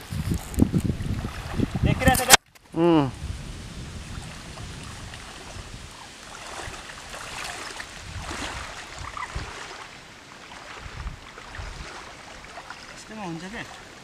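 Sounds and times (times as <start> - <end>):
wind buffeting microphone: 0.0 - 9.8, 10.5 - 14.0
wind rushing through reeds: 0.0 - 14.0.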